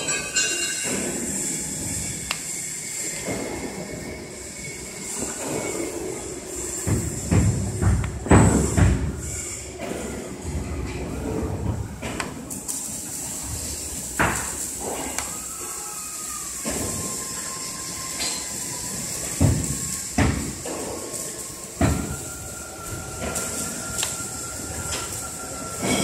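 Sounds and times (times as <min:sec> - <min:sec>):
workshop hum with high whine: 0:00.0 - 0:26.0.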